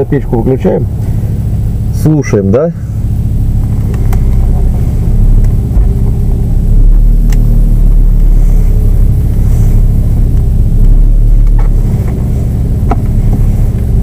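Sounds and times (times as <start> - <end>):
car engine rumble: 0.0 - 14.0
tyre and power steering noise: 0.0 - 14.0.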